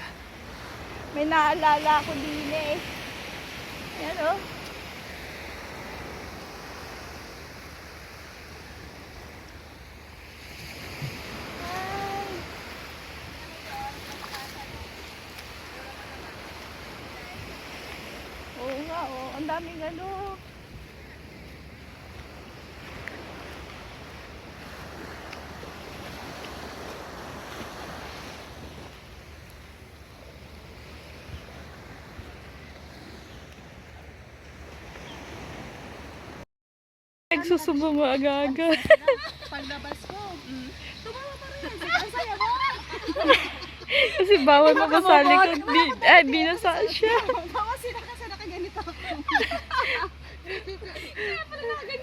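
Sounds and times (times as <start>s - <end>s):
water rushing at shore: 0.0s - 36.4s, 37.3s - 52.0s
waves washing onto a beach: 0.0s - 36.4s, 38.8s - 52.0s.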